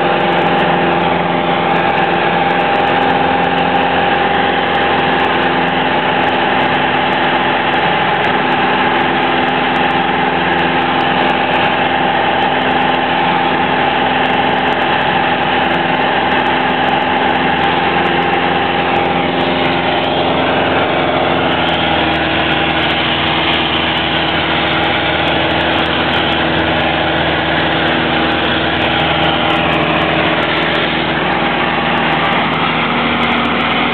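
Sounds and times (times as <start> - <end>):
airplane engine drone in cabin: 0.0 - 33.9.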